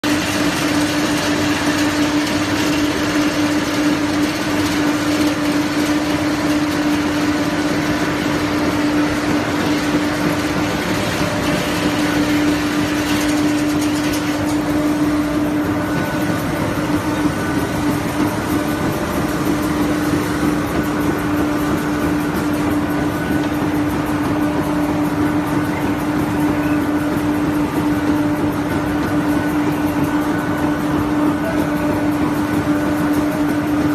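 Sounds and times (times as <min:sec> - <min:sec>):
tyre grinding machinery: 0:00.0 - 0:33.9.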